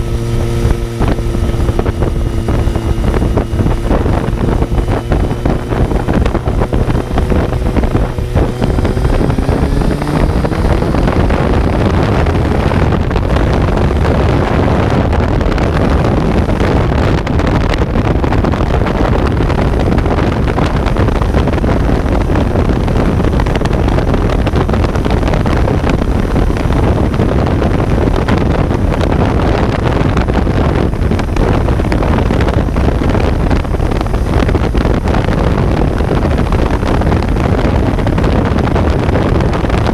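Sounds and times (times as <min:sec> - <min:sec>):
motorcycle engine accelerating: 0:00.0 - 0:39.9
wind rushing on microphone: 0:00.0 - 0:39.9.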